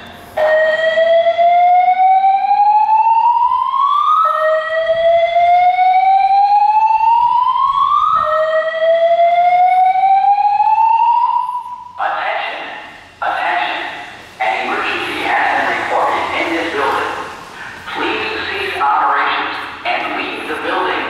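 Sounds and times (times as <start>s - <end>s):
slow-whoop evacuation tone: 0.0s - 19.9s.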